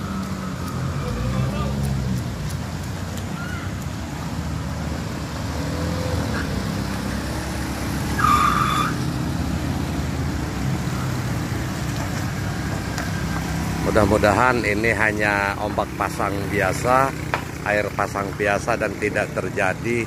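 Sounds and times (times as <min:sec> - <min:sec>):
vehicles driving through floodwater: 0:00.0 - 0:20.0.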